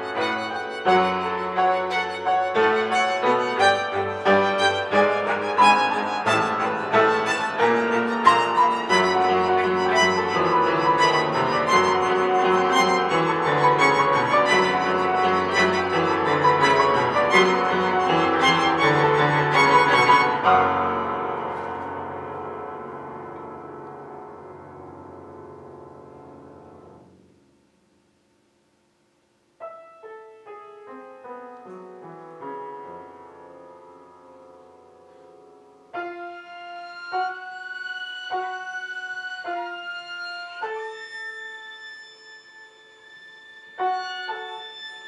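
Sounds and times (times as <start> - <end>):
piano trio playing: 0.0 - 27.4, 29.5 - 45.0.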